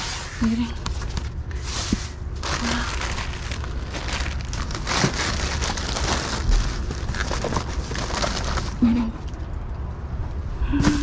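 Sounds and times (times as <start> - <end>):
plastic bags rustling: 0.0 - 9.4.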